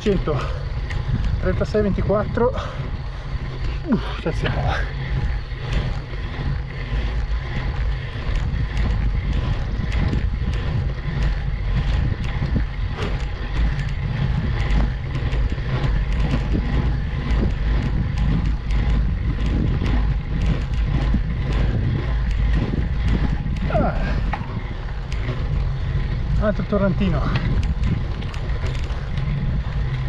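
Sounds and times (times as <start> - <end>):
bicycle clicks and rattles: 0.0 - 30.0
wind rumbling on microphone: 0.0 - 30.0.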